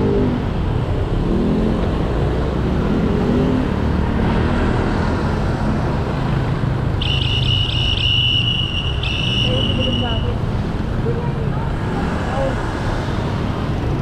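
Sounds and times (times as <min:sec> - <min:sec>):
motor vehicle engines running: 0:00.0 - 0:14.0
road and wind noise: 0:00.0 - 0:14.0.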